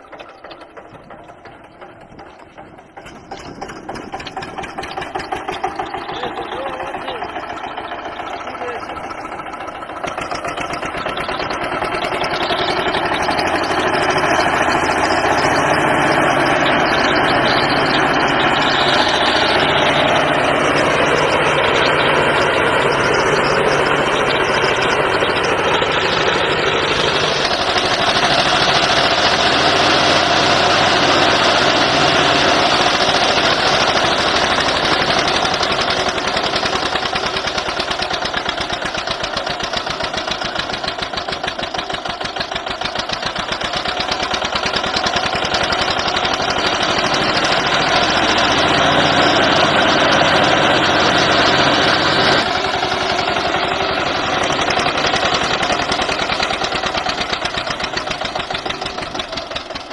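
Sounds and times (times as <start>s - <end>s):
backhoe loader engine working: 0.0s - 59.9s
tractor engine running: 0.0s - 59.9s.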